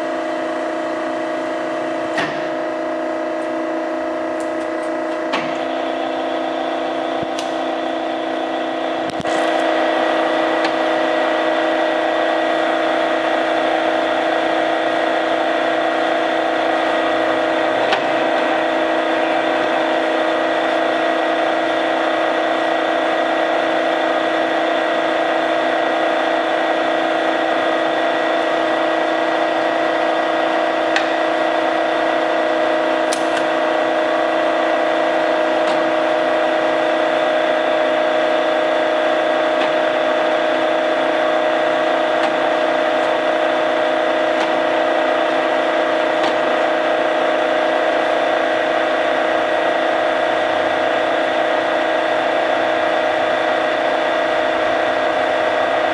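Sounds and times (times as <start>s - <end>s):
lathe whine: 0.0s - 55.9s.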